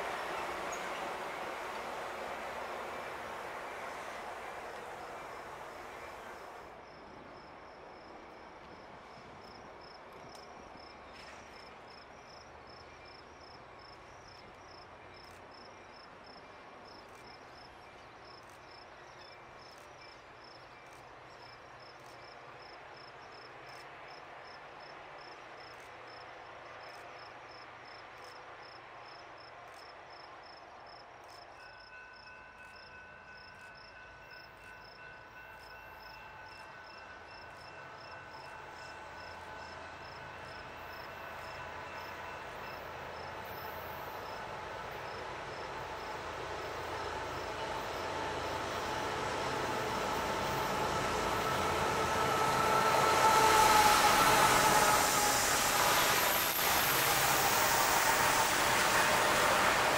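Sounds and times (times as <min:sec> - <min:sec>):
passing train: 0:00.0 - 0:59.9.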